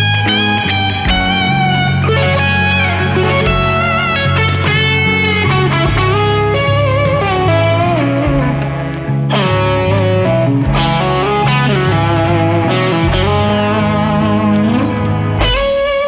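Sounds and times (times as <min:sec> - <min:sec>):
bass and drums backing track: 0:00.0 - 0:16.0
electric guitar blues lead: 0:00.0 - 0:16.0
loud guitar chord ringing: 0:00.0 - 0:16.0.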